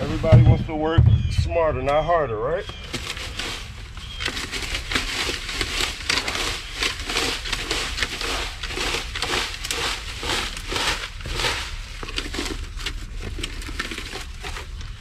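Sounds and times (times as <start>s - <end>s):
dry leaves crunching and rustling: 2.7s - 15.0s.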